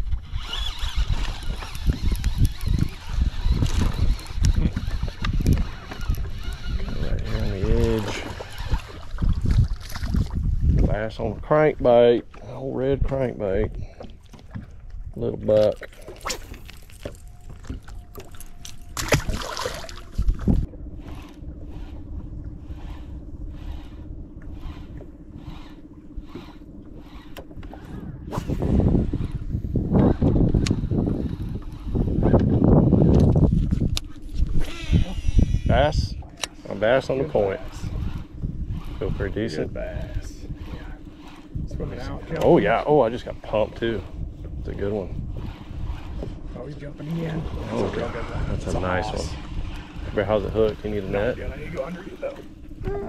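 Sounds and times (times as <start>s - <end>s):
fishing reel whirring: 0.0s - 10.4s, 15.6s - 53.0s
steady low hum: 0.0s - 53.0s
water lapping at hull: 0.0s - 53.0s
wind buffeting microphone: 0.0s - 53.0s.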